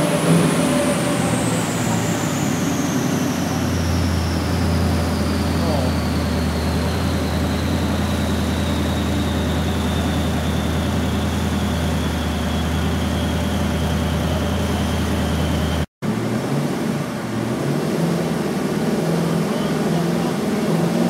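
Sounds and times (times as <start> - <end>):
car engine droning on dyno: 0.0 - 21.0.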